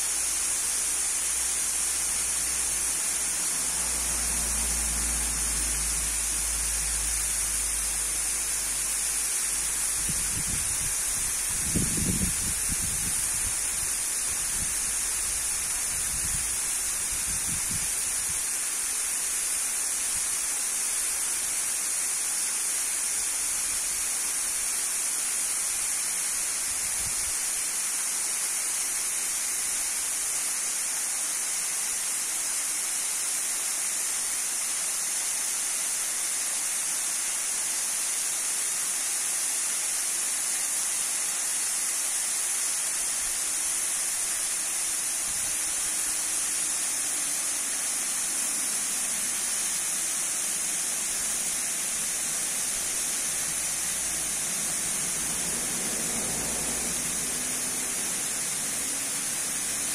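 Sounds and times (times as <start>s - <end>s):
waterfall hissing and splashing: 0.0s - 59.9s.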